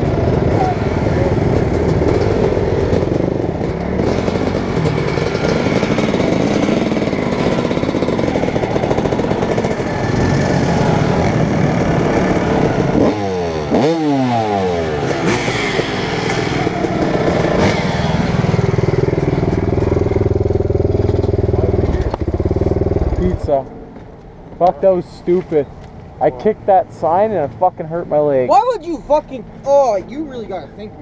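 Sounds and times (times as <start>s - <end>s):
dirt bike engines running: 0.0s - 31.0s.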